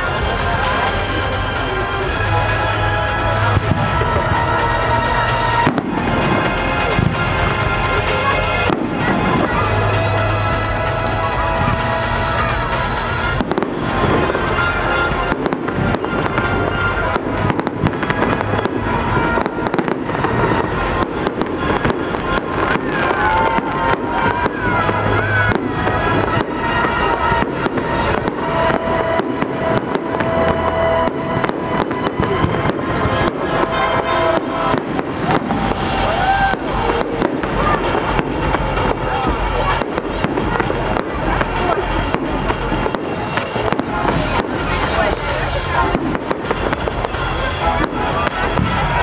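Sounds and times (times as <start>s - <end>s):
fireworks bangs and crackles: 0.0s - 49.0s
music of long held notes: 0.0s - 49.0s.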